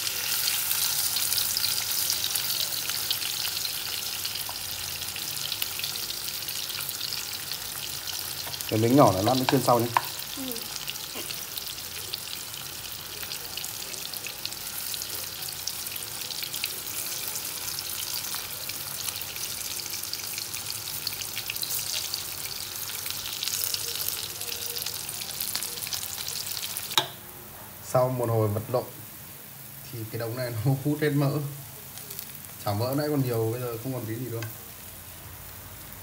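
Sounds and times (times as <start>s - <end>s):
mock meat sizzling in oil: 0.0s - 27.2s, 27.8s - 36.0s.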